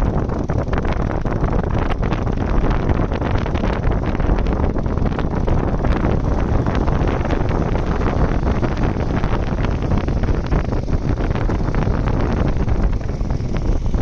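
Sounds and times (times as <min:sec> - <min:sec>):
motorcycle noise: 0:00.0 - 0:14.0
wind buffeting microphone: 0:00.0 - 0:14.0.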